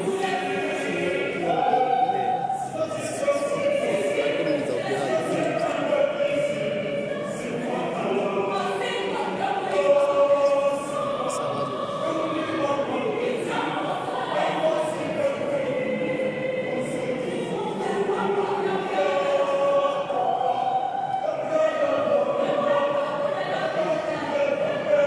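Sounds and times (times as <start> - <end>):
choir singing: 0.0 - 25.0.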